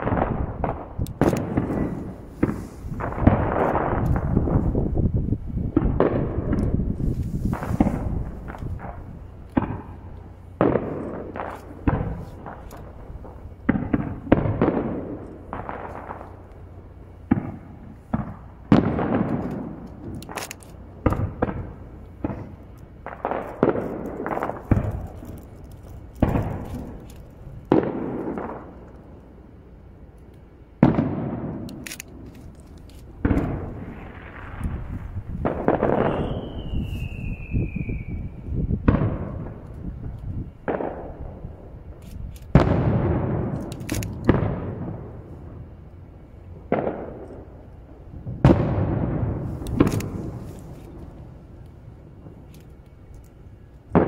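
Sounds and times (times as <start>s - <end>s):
distant firework booms: 0.0s - 20.1s, 20.9s - 25.2s, 26.0s - 27.0s, 27.6s - 29.2s, 30.8s - 31.7s, 33.1s - 41.7s, 42.5s - 45.6s, 46.7s - 47.6s, 48.2s - 52.4s.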